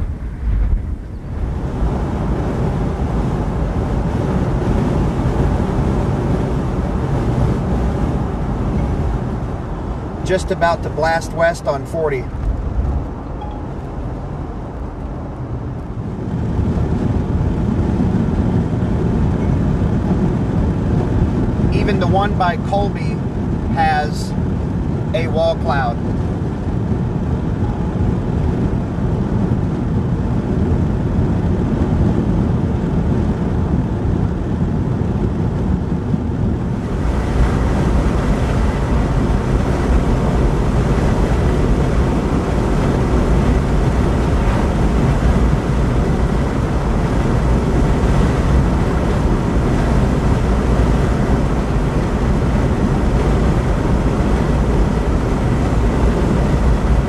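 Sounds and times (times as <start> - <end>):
road and wind noise in car: 0.0 - 57.0.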